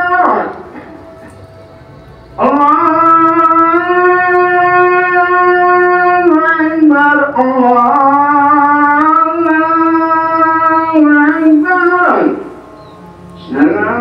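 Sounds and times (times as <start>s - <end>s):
melody with long sliding notes: 0.0s - 6.0s, 8.7s - 14.0s.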